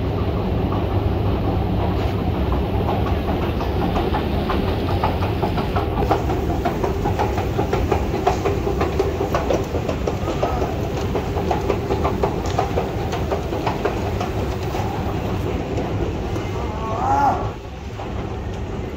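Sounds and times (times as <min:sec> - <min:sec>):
escalator rumbling and clattering: 0:00.0 - 0:18.9.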